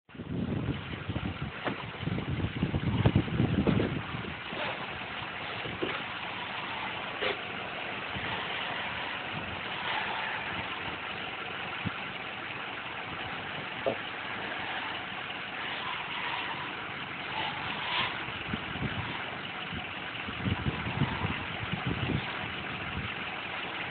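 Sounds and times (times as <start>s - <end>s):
truck engine idling: 0.1s - 23.9s.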